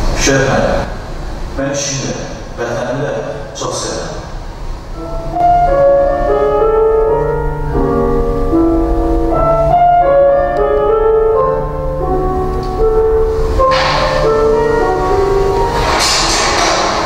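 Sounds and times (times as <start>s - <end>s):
piano film score music over loudspeakers: 0.0s - 17.0s.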